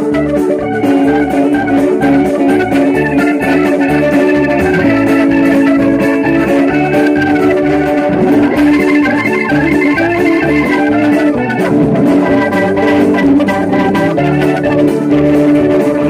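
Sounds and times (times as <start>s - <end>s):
electric guitar lines: 0.0s - 16.0s
steady drum beat: 0.0s - 16.0s
sustained organ chords: 0.0s - 16.0s.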